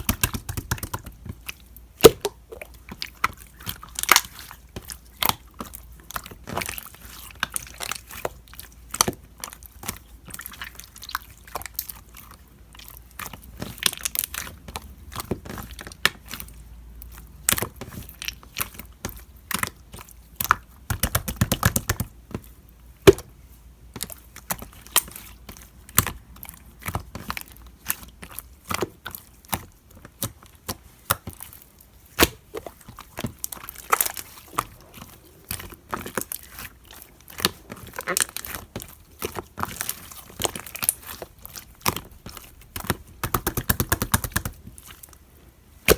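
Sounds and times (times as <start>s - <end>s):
slime squelching and popping: 0.0s - 45.9s.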